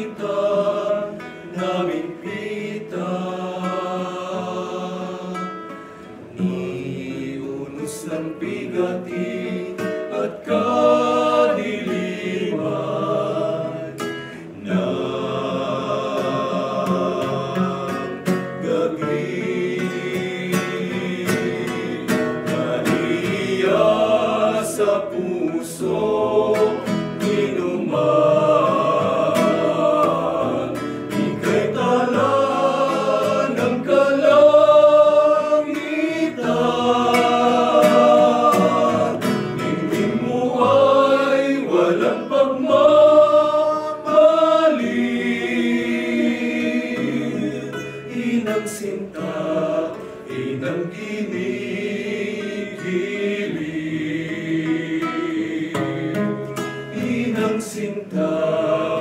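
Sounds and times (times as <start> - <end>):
men singing a hymn: 0.0 - 59.0
strummed acoustic guitar: 0.0 - 59.0.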